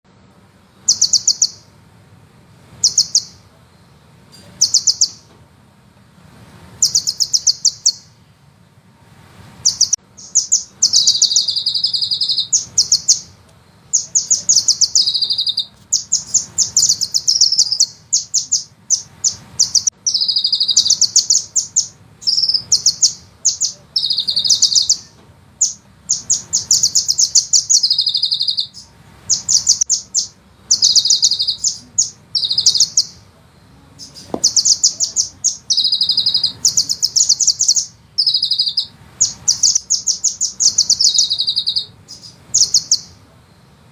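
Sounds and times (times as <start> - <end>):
sunbird trilling: 0.8 - 1.7, 2.8 - 3.4, 4.4 - 5.3, 6.8 - 8.2, 9.6 - 33.2, 34.0 - 43.2.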